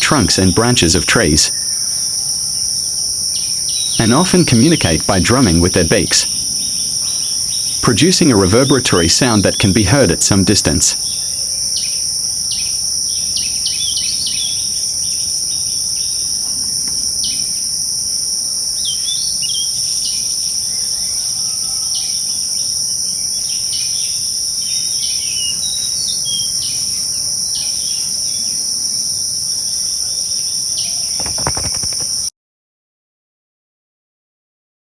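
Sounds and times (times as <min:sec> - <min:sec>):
high-pitched insect drone: 0:00.0 - 0:32.3.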